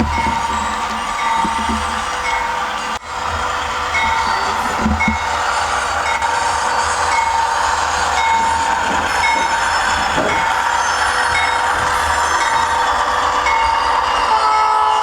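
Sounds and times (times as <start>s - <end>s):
model train diesel engine drone: 0.0s - 15.0s.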